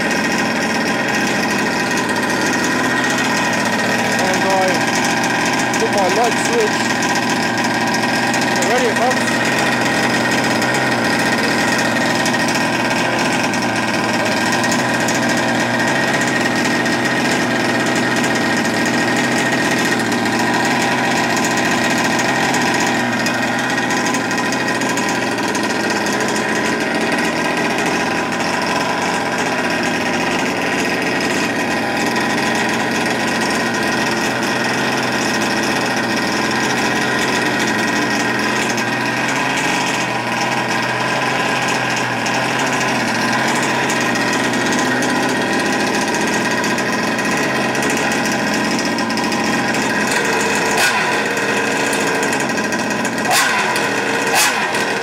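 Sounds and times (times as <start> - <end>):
two-stroke engine idling: 0.0 - 55.0.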